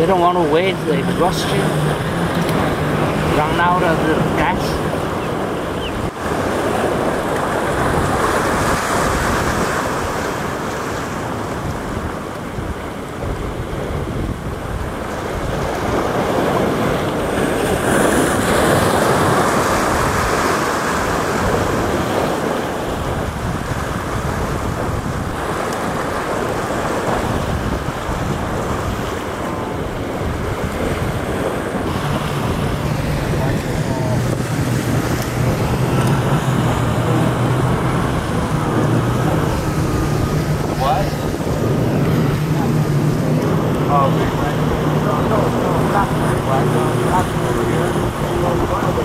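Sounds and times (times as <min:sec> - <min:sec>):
waves rushing: 0:00.0 - 0:49.0
wind buffeting microphone: 0:00.0 - 0:49.0.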